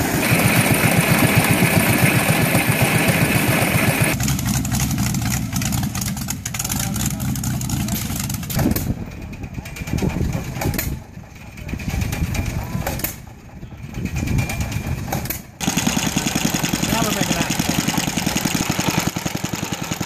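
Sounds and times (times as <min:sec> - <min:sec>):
engine driving mill clattering: 0:00.0 - 0:20.0
old engine running steadily: 0:00.0 - 0:20.0.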